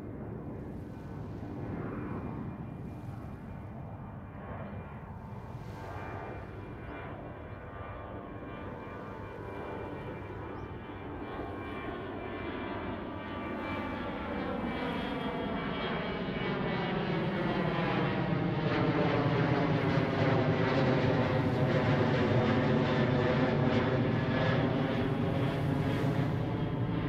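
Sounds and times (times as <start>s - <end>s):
airplane engine rumble: 0.0s - 27.0s.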